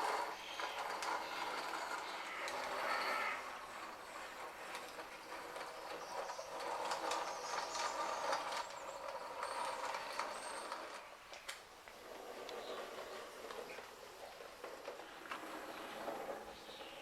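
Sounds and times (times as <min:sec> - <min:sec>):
model train running: 0:00.0 - 0:17.0.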